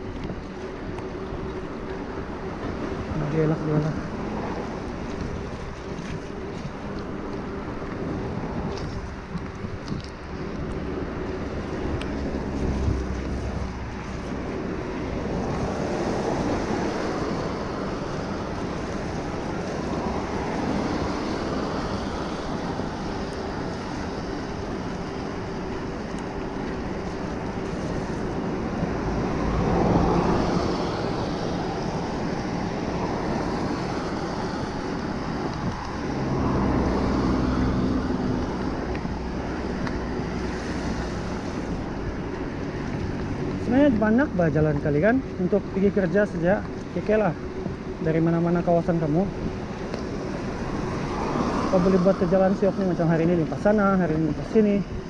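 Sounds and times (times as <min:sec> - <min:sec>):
road traffic passing: 0:00.0 - 0:55.0
wind rushing over microphone: 0:00.0 - 0:55.0.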